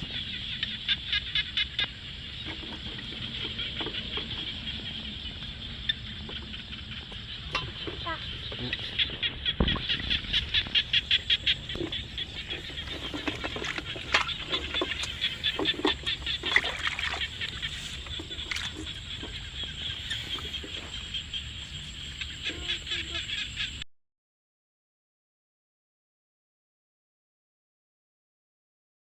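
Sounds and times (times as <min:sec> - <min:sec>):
chorus of high animal calls: 0:00.0 - 0:23.8.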